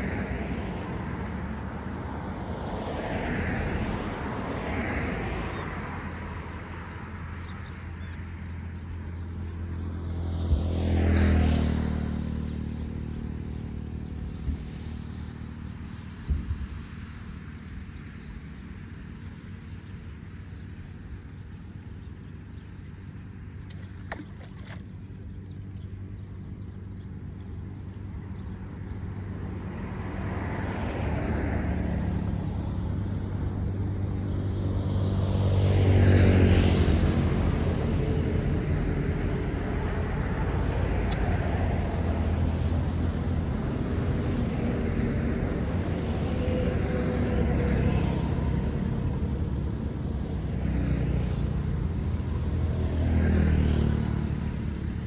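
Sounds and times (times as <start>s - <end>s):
vehicle engines passing: 0.0s - 55.0s.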